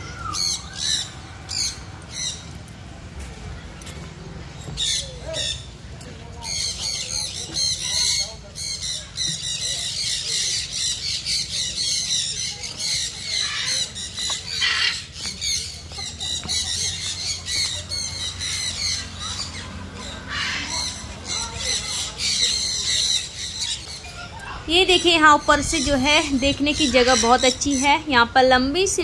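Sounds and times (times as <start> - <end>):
birds chirping and squawking: 0.0 - 29.0.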